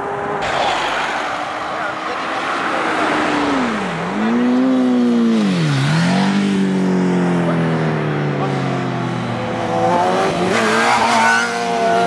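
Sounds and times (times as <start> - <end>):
motorcycle engine revving: 0.6 - 12.0.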